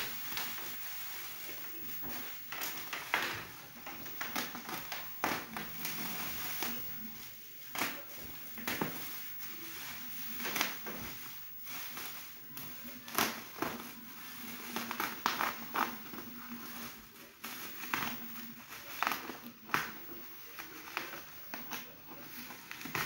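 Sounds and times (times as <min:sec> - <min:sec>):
bubble wrap crinkling: 0:00.0 - 0:23.0.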